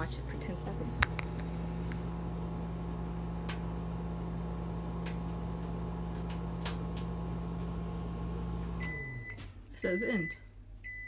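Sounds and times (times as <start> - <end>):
microwave oven humming: 0.0 - 9.5.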